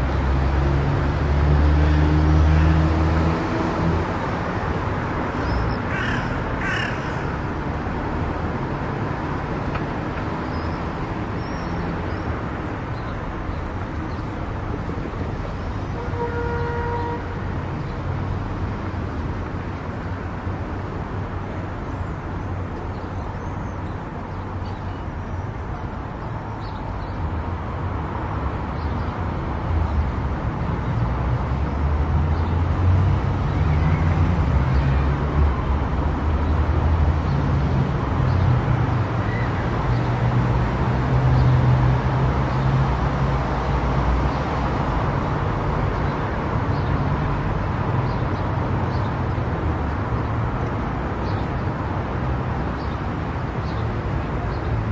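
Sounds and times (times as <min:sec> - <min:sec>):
road and tyre rumble: 0:00.0 - 0:54.9.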